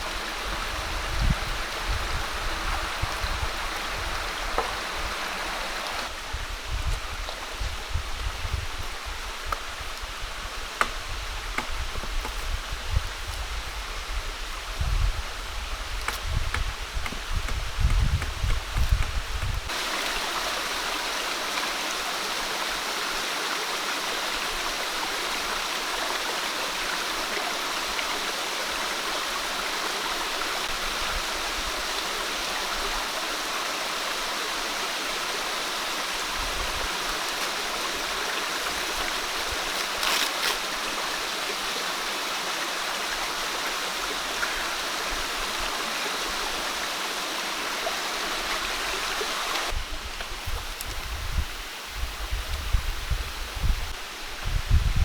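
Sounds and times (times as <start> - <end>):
flowing water rushing: 0.0 - 54.5.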